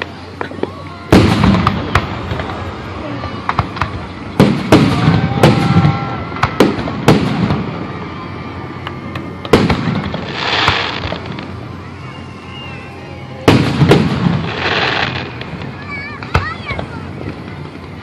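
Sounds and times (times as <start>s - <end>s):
crackling hiss: 0.0s - 18.0s.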